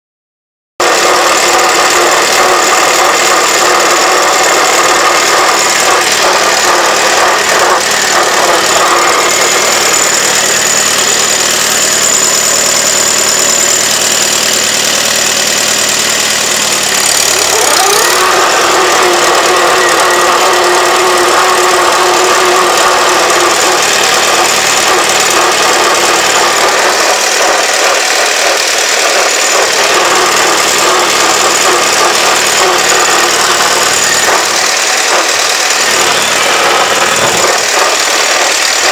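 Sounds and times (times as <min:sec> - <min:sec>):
steady whine: 0:00.8 - 0:38.9
tractor engine running: 0:00.8 - 0:38.9.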